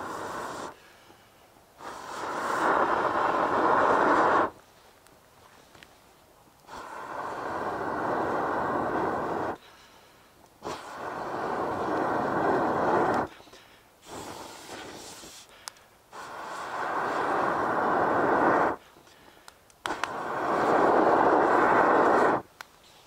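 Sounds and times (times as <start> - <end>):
person blowing long breaths: 0.0 - 4.6, 6.7 - 22.5.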